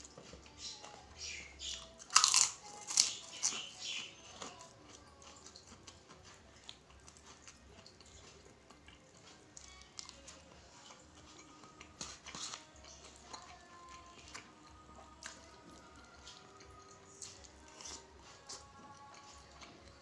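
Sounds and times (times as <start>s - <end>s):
chewing: 0.0s - 20.0s.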